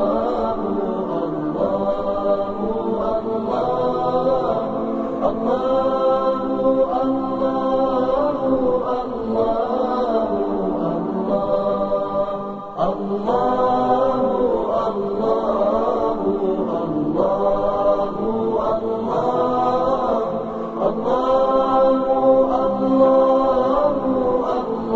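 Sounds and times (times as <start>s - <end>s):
wordless chant-like singing: 0.0s - 24.9s.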